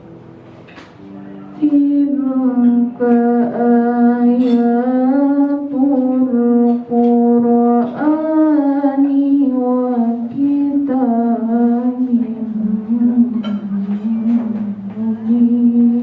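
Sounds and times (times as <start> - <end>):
woman reciting melodically: 1.6 - 16.0.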